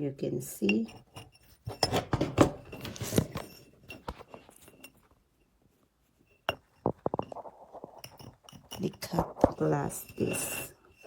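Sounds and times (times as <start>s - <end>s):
glass and tools clinking: 0.6s - 5.0s, 6.3s - 11.0s.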